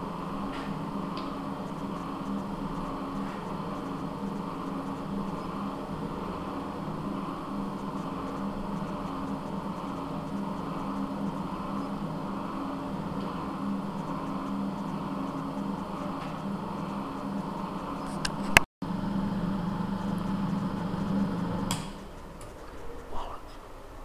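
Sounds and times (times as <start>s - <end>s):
boring machine humming: 0.0s - 24.0s.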